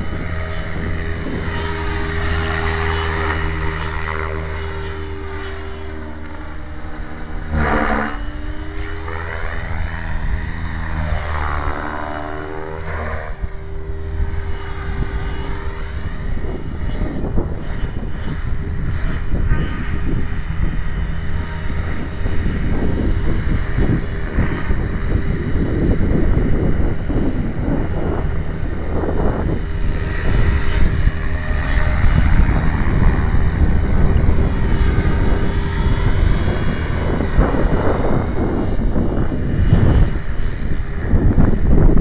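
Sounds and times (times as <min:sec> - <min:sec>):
rc helicopter rotor whine: 0:00.0 - 0:42.0
wind buffeting microphone: 0:00.0 - 0:42.0.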